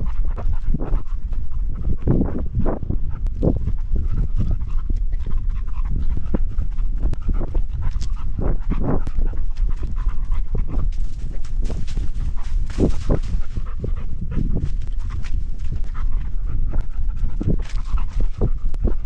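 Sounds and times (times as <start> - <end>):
constant low rumble: 0.0 - 19.0
dog panting hard: 0.0 - 19.0.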